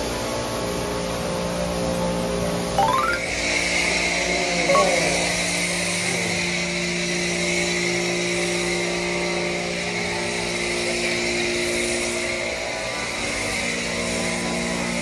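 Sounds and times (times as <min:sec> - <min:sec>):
hiss of spray: 0:00.0 - 0:15.0
pressure washer motor hum: 0:00.0 - 0:15.0.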